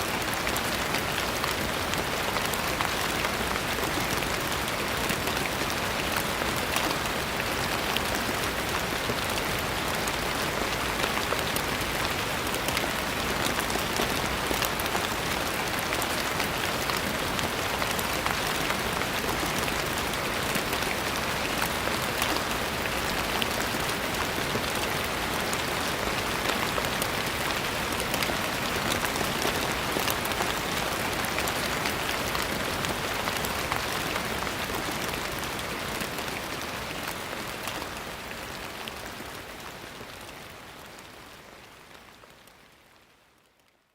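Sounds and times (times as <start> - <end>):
steady rain pattering: 0.0 - 43.9.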